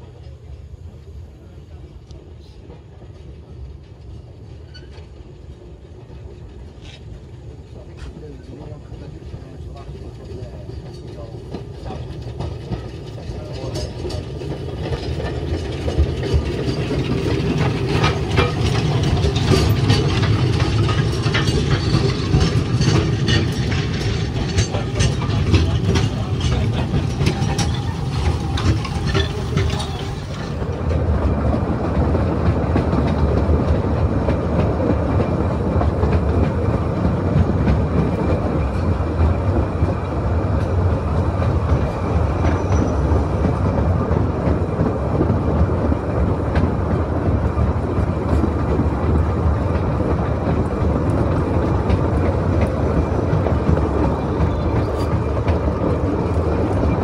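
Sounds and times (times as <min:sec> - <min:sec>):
steam train passing: 0:00.0 - 0:57.0
carriage rumble and clatter: 0:07.9 - 0:57.0
wheels clicking and rattling: 0:09.2 - 0:57.0.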